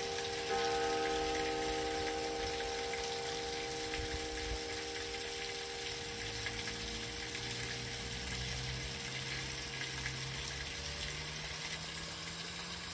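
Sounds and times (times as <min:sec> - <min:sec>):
faint church bell hum: 0:00.0 - 0:11.6
rain hissing on wet street: 0:00.0 - 0:12.9
vehicle hum rising in pitch: 0:00.0 - 0:12.9.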